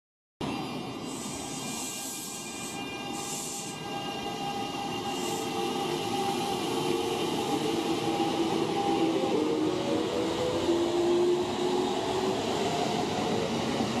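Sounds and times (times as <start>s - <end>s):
electric train running: 0.4s - 14.0s.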